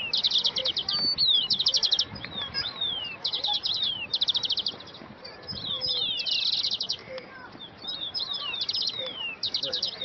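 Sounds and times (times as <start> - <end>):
songbird singing: 0.0 - 10.0.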